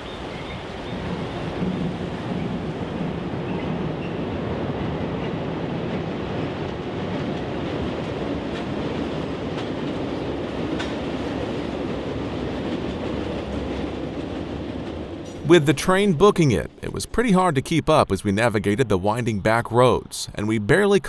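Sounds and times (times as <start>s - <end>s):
train rumbling by: 0.0s - 19.6s.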